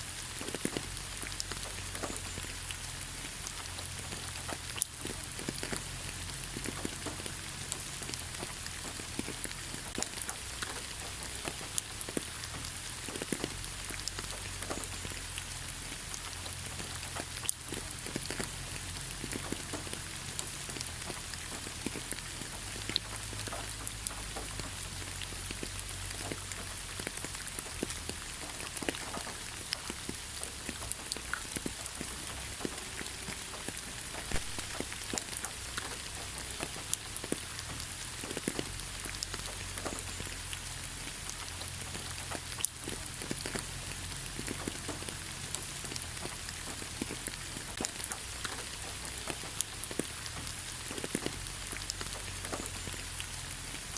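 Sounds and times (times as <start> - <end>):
rain falling: 0.0 - 53.9
raindrops pattering: 0.0 - 53.9.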